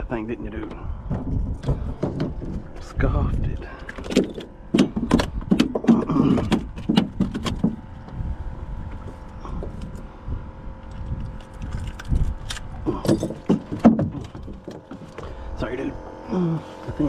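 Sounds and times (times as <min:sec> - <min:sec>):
faint steady hum: 0:00.0 - 0:17.0
fish and tackle rattling on kayak: 0:00.4 - 0:10.1, 0:10.8 - 0:15.6.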